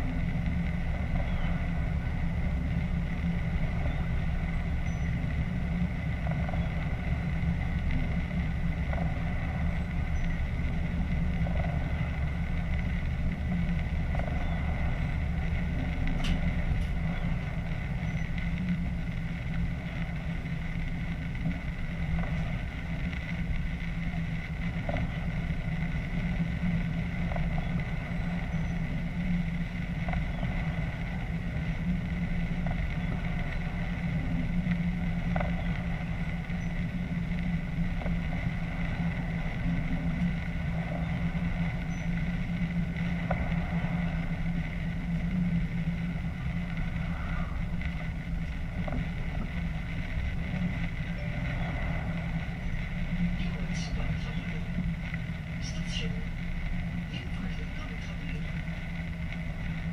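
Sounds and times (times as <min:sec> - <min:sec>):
thin steady whine: 0:00.0 - 0:59.9
train running hum: 0:00.0 - 0:59.9.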